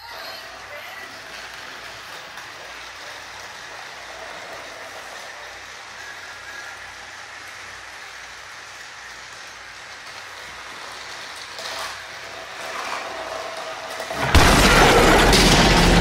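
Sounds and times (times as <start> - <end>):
toy trains rattling on track: 0.0 - 16.0.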